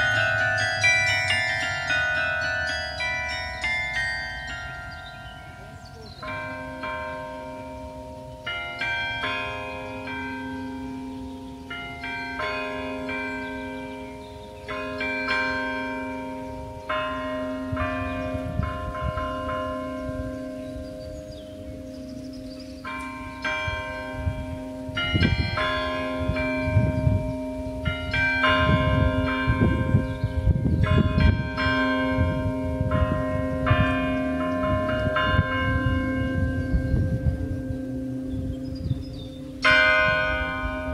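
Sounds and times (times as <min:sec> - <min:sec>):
carillon bells ringing: 0:00.0 - 0:40.9.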